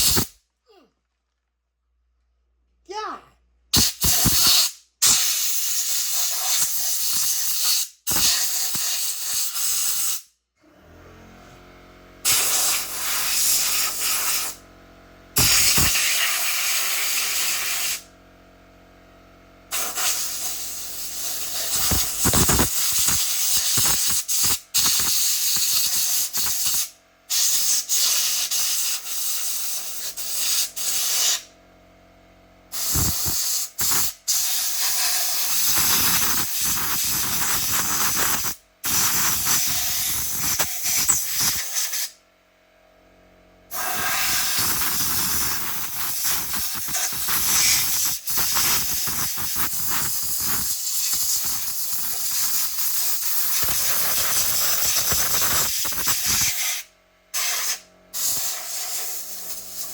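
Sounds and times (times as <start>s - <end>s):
spray hissing in bursts: 0.0s - 0.3s, 3.8s - 10.2s, 12.2s - 14.6s, 15.4s - 18.1s, 19.7s - 31.5s, 32.7s - 42.1s, 43.7s - 59.9s.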